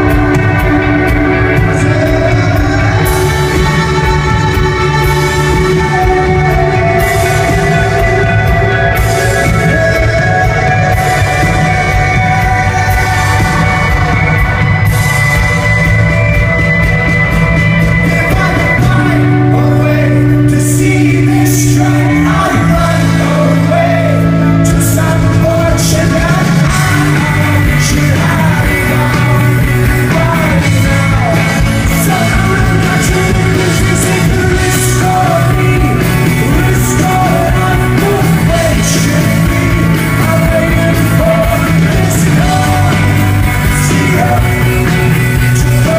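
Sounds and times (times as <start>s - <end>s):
held bass notes: 0.0s - 45.9s
person singing: 0.0s - 45.9s
rock band playing live: 0.0s - 45.9s.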